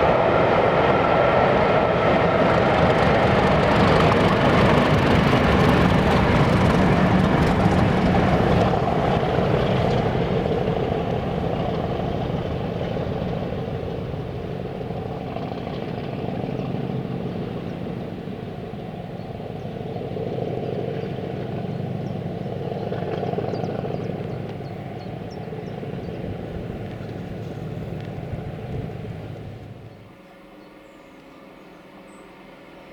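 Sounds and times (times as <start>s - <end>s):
diesel locomotive engine working hard: 0.0s - 30.3s.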